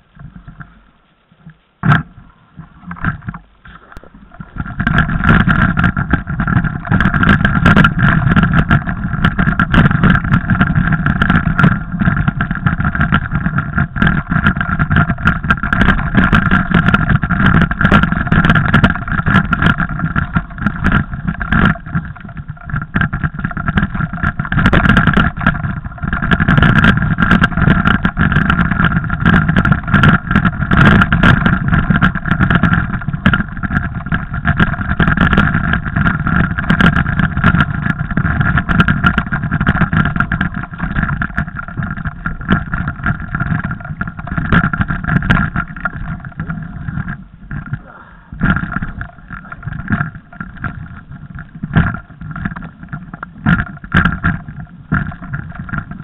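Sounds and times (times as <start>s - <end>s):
bike rattling and clattering: 4.3s - 56.0s.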